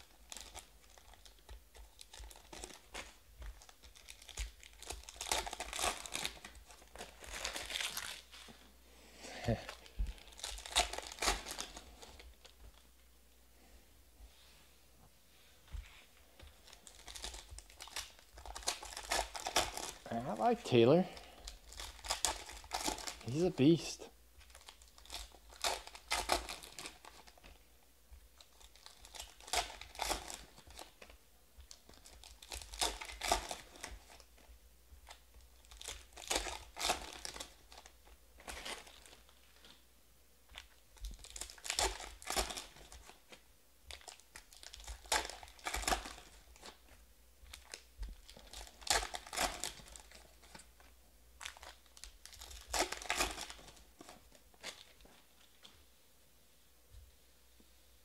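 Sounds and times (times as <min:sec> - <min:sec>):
foil wrappers tearing and crinkling: 0:00.0 - 0:08.5, 0:09.5 - 0:12.8, 0:16.6 - 0:27.6, 0:28.4 - 0:34.4, 0:35.0 - 0:39.8, 0:40.5 - 0:46.9, 0:47.5 - 0:55.7.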